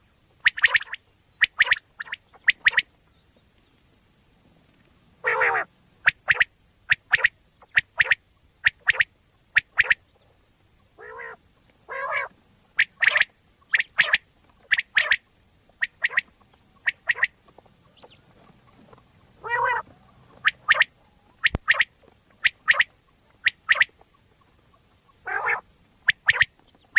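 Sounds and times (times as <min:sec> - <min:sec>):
quail calling: 0:00.4 - 0:03.0, 0:05.2 - 0:10.3, 0:11.0 - 0:26.9.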